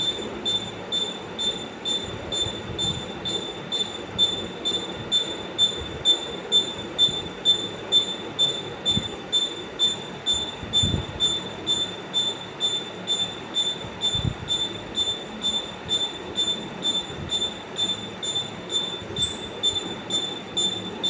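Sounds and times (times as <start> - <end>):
rotating device squeaking: 0.0 - 21.0.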